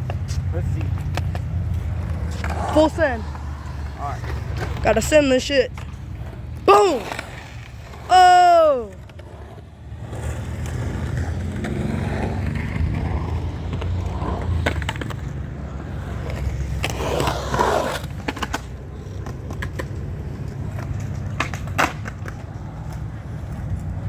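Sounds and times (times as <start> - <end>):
skateboard clacks: 0.0 - 24.0
skateboard wheels rumbling: 0.0 - 24.0.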